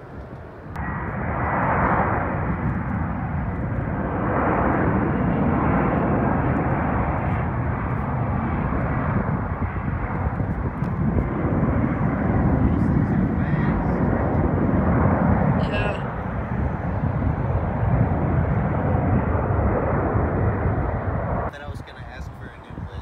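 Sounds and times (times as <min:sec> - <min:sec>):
jet engine rushing on landing: 0:00.0 - 0:23.0.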